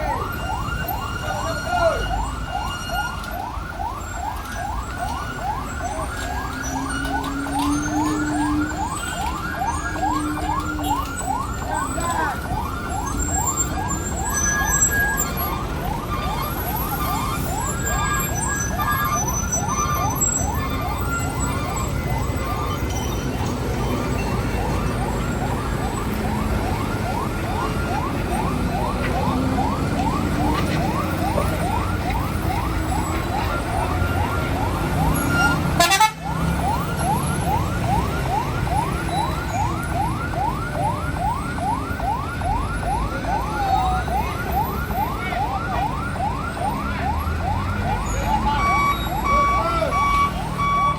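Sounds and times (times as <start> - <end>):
siren yelping: 0.0 - 50.9
vehicle engines idling: 0.0 - 50.9.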